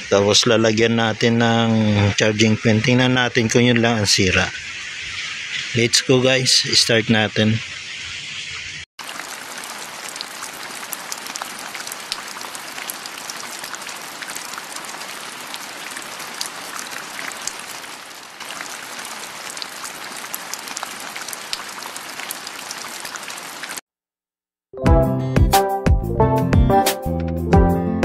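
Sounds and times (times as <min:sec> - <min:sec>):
water patter with sharp ticks: 0:00.2 - 0:23.8.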